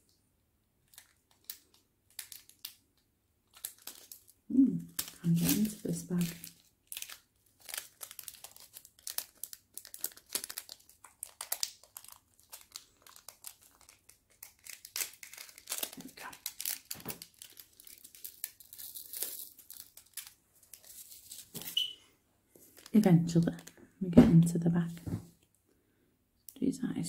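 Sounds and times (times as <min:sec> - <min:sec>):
plastic bag crinkling and tearing: 0:00.8 - 0:02.8, 0:03.4 - 0:21.9, 0:22.6 - 0:23.8.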